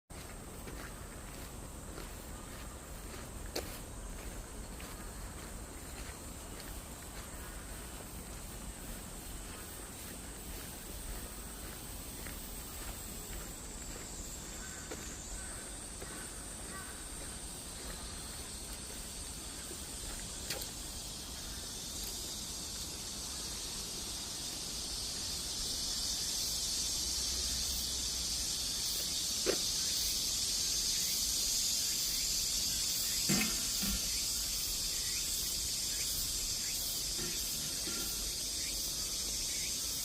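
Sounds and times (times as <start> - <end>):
insect chorus drone: 0.1 - 40.0.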